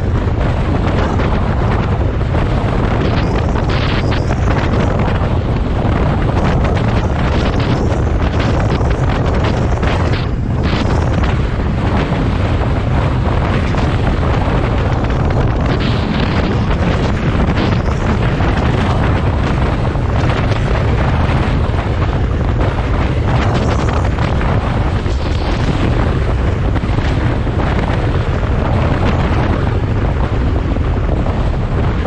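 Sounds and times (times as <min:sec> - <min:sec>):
wind noise on microphone: 0:00.0 - 0:32.0.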